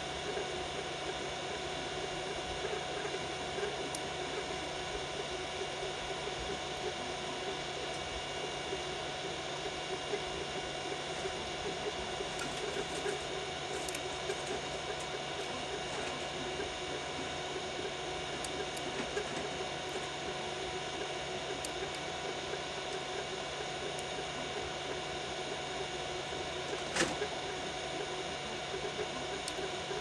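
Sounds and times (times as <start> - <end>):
fans humming: 0.0 - 30.0.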